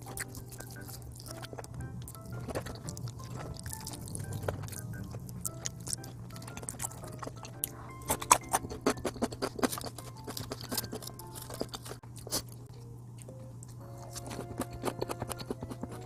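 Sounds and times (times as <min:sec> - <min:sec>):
crunchy chewing of fried chicken: 0:00.0 - 0:16.0
light background music: 0:00.0 - 0:16.0.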